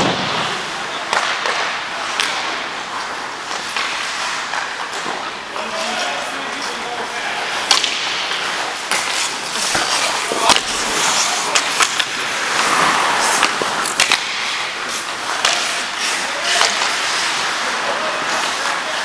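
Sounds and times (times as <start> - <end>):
hockey sticks and puck clacking: 0.0 - 19.0
skate blades scraping ice: 0.0 - 19.0.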